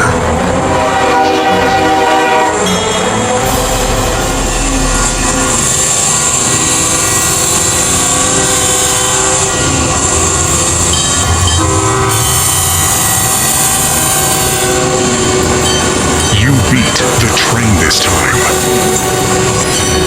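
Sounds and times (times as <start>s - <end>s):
train horn: 0.0s - 16.3s, 18.4s - 20.0s
train running: 0.0s - 20.0s.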